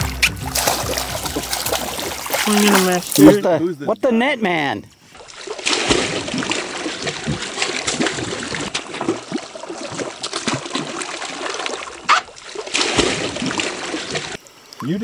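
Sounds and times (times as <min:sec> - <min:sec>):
fish thrashing and splashing: 0:00.0 - 0:03.4, 0:05.2 - 0:14.4.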